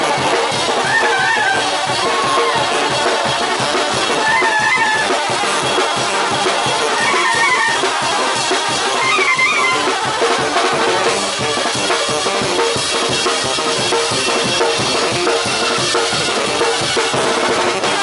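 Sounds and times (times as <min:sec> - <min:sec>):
brass band playing: 0:00.0 - 0:18.0
steady drum beat: 0:00.0 - 0:18.0.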